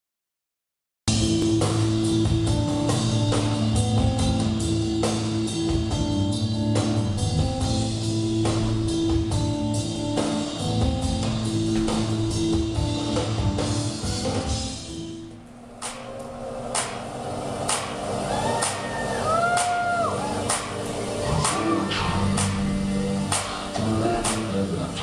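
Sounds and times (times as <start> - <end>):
dance music with drum beat: 1.1 - 15.2, 16.8 - 25.0.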